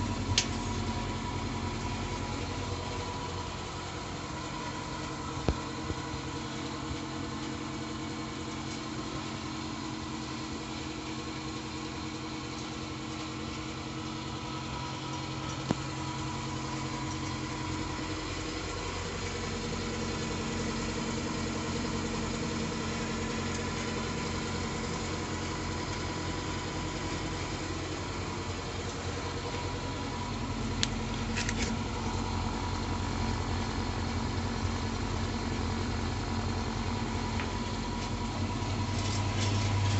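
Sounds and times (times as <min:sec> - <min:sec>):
pellet boiler humming: 0:00.0 - 0:39.9.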